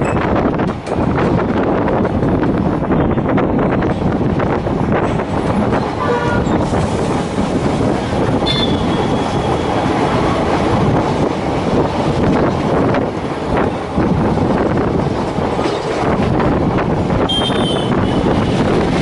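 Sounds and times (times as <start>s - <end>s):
train rumble from on board: 0.0s - 19.0s.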